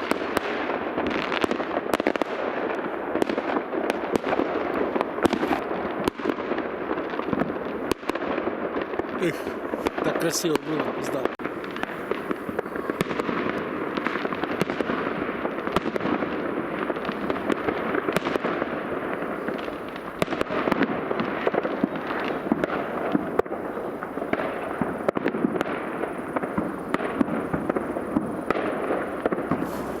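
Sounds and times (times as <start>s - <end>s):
fireworks crackling and banging: 0.0s - 30.0s.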